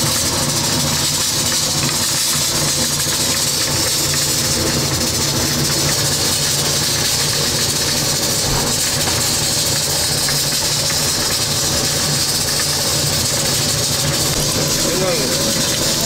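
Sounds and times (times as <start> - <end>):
kitchen hiss: 0.0 - 16.0.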